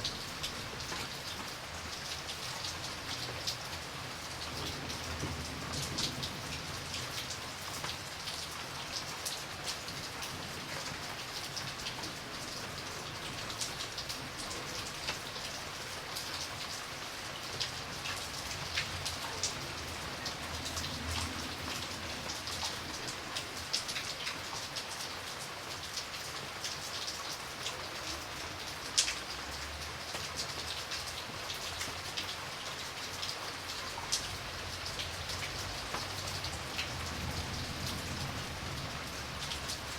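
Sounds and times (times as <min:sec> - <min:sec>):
rain dripping onto a surface: 0:00.0 - 0:39.9.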